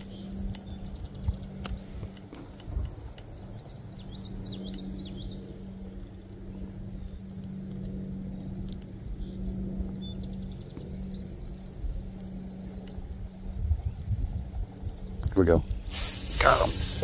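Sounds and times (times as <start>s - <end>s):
songbirds trilling and warbling: 0.0s - 15.9s
low wind rumble: 0.0s - 17.0s
steady low hum: 0.0s - 17.0s.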